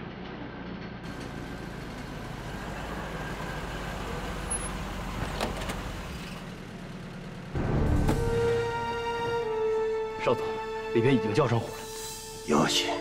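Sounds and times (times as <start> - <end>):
vehicle engine rumbling: 0.0 - 10.9.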